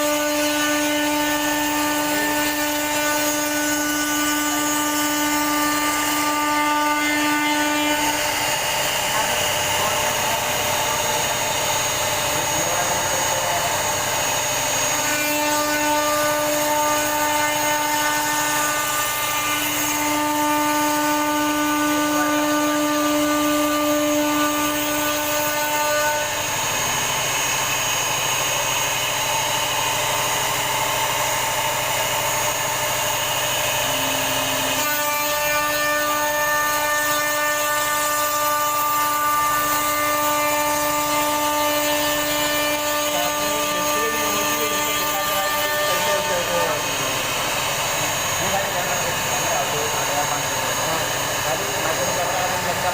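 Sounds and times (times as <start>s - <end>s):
router spindle whine: 0.0s - 52.9s.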